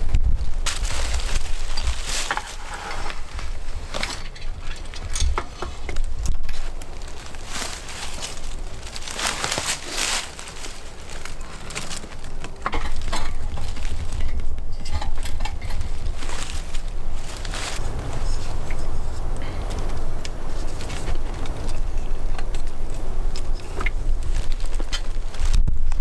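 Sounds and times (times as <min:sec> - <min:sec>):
crunching and crackling: 0:00.0 - 0:26.0
wind rumble on microphone: 0:00.0 - 0:26.0.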